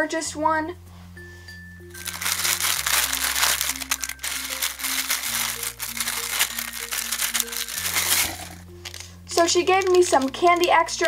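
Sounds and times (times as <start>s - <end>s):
background music with held notes: 0.0s - 11.0s
plastic packaging crinkling: 1.9s - 11.0s.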